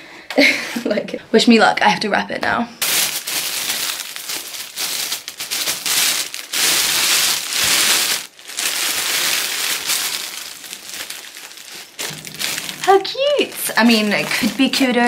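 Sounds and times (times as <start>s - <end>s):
cellophane wrap crinkling: 2.8s - 15.0s.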